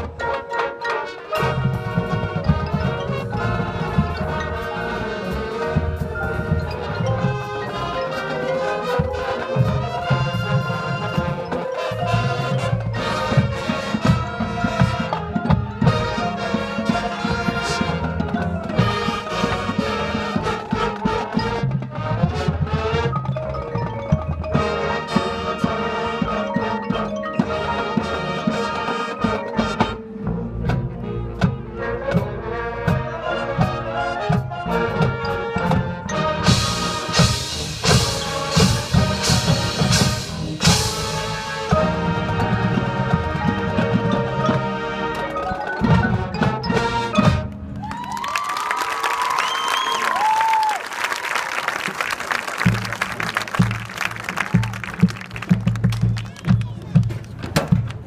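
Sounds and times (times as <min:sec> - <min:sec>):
brass: 0:00.0 - 0:47.8
marimba xylophone and glockenspiel: 0:00.0 - 0:47.8
drums: 0:00.0 - 0:58.0.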